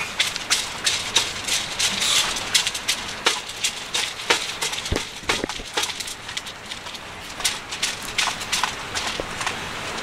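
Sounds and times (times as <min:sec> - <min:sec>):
dogs crunching dry kibble: 0:00.0 - 0:10.0
kibble clicking against bowls: 0:00.0 - 0:10.0.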